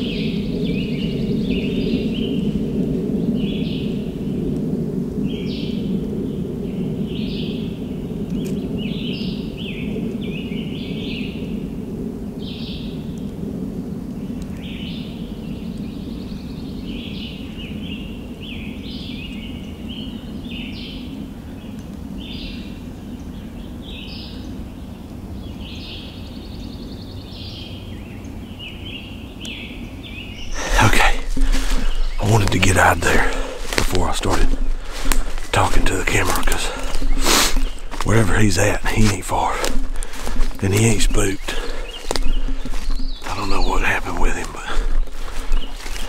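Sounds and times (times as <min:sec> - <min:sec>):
songbirds singing: 0:00.0 - 0:46.0
steady low rumble: 0:00.0 - 0:46.0.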